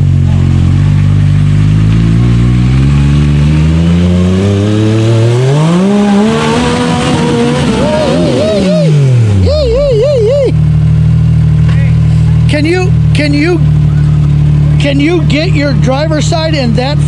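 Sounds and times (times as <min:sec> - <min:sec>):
utility vehicle engine revving: 0:00.0 - 0:17.0.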